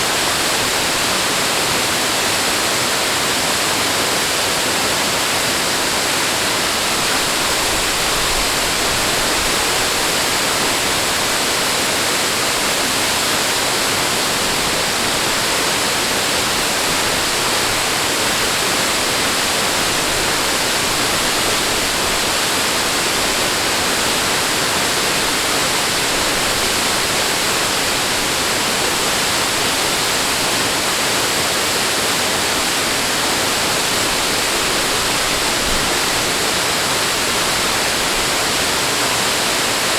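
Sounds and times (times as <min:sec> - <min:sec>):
rushing flowing water: 0:00.0 - 0:39.9.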